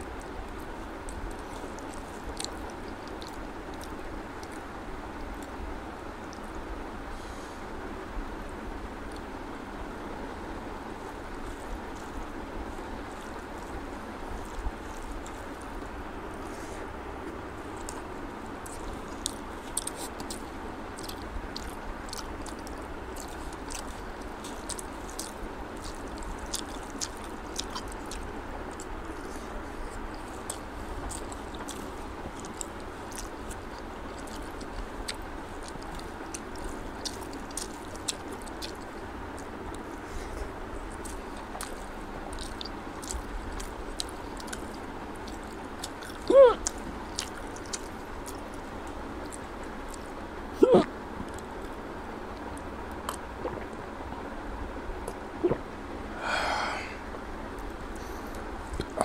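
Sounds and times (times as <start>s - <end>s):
wet chewing sounds: 0.0s - 6.6s, 9.0s - 54.3s, 57.6s - 59.0s.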